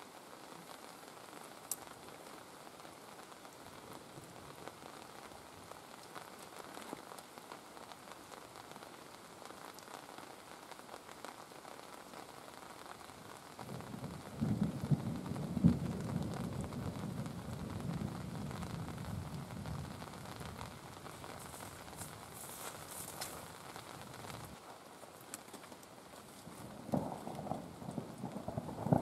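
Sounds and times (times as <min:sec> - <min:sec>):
rain hissing: 0:00.0 - 0:29.0.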